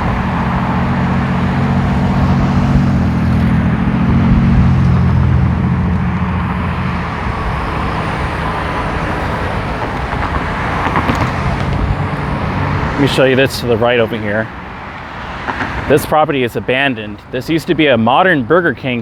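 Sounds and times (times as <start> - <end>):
tyre and road noise: 0.0 - 19.0
vehicle engine hum: 0.0 - 19.0.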